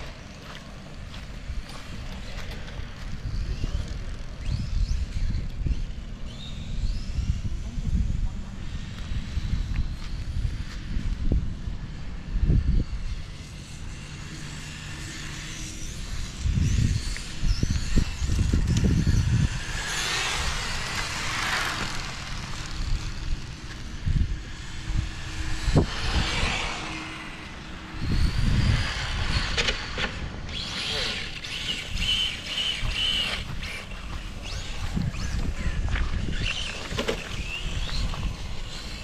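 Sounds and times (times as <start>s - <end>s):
rc car motor whine: 0.0s - 39.0s
wind buffeting microphone: 0.0s - 39.0s.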